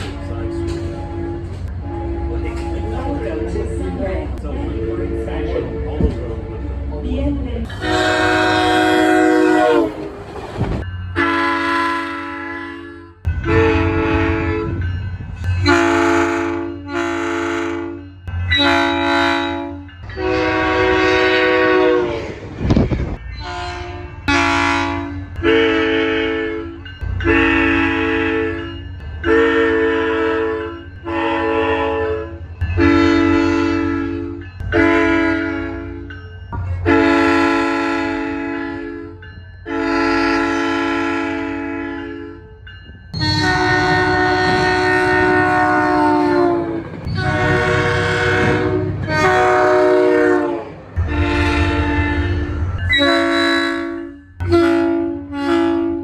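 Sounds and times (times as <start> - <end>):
train horn blasts: 0.0 - 3.8, 7.7 - 10.2, 11.2 - 14.8, 15.5 - 22.4, 23.3 - 36.1, 36.8 - 42.6, 43.2 - 56.0
train rumble: 0.0 - 56.0.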